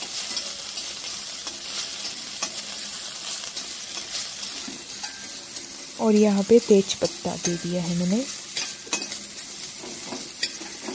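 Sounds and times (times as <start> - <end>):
metal spatula scraping: 0.0 - 6.3, 7.2 - 10.9
seeds sizzling in hot oil: 0.0 - 10.9.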